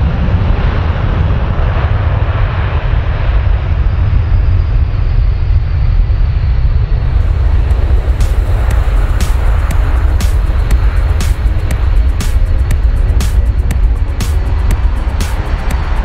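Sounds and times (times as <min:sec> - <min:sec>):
jet engines rumbling: 0:00.0 - 0:16.0
faint high engine whine: 0:01.3 - 0:16.0.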